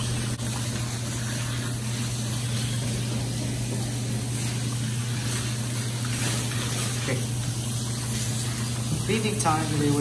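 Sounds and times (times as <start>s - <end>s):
electric motor hum: 0.0s - 10.0s.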